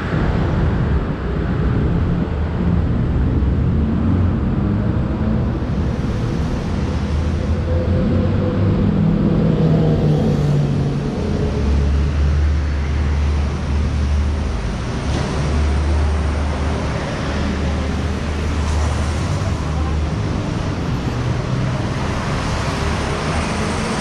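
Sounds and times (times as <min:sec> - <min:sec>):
deep engine rumble: 0:00.0 - 0:24.0
vehicle engines and tyres: 0:00.0 - 0:24.0.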